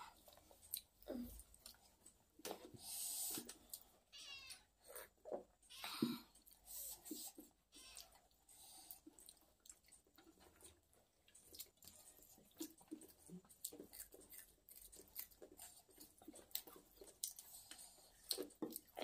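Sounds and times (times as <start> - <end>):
chewing: 0.0 - 4.0, 6.3 - 19.0.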